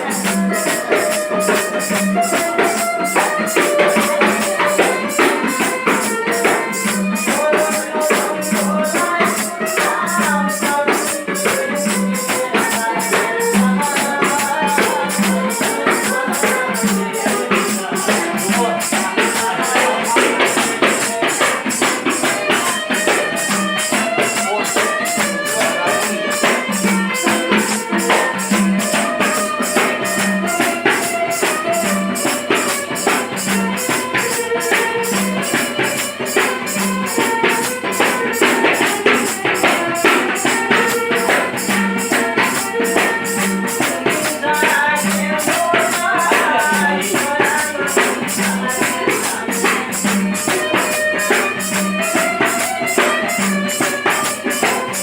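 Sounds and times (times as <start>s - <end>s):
jingling percussion beat: 0.0s - 55.0s
winding folk melody: 0.0s - 55.0s.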